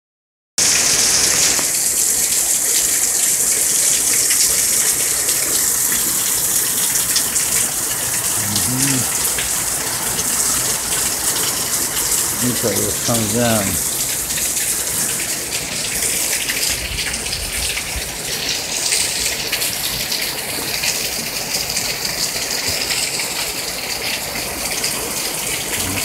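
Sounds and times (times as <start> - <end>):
heavy rain pouring: 0.6 - 26.0
drips splashing: 1.9 - 26.0.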